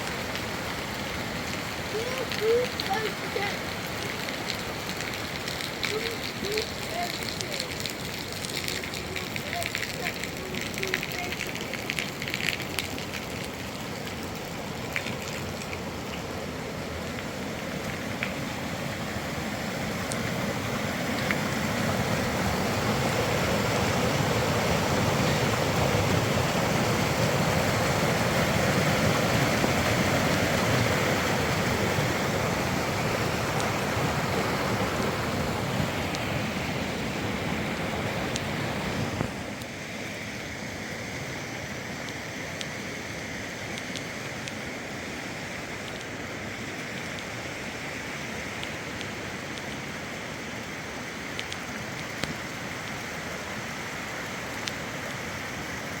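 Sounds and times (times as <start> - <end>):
heavy rain and wind rushing: 0.0 - 56.0.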